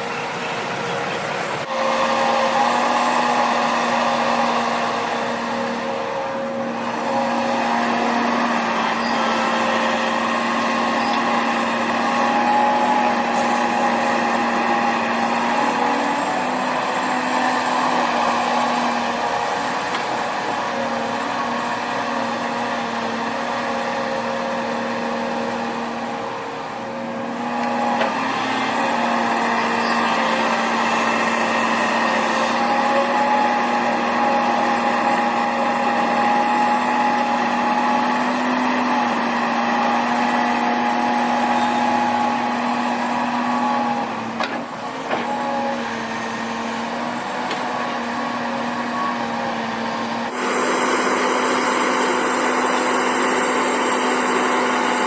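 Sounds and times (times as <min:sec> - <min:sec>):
heavy machinery diesel engines droning: 0:00.0 - 0:55.0.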